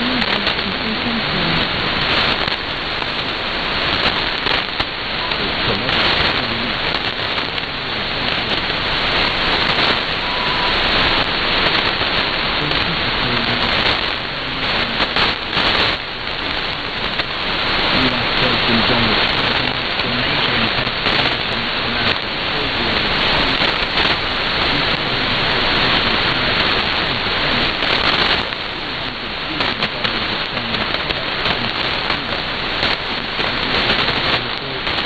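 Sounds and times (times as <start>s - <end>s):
radio static hiss with crackles: 0.0s - 35.0s.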